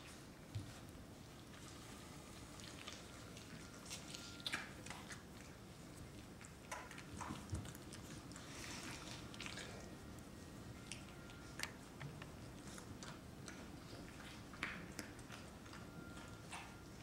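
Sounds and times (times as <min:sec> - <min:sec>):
puppies chewing wet smacks: 0:00.0 - 0:17.0.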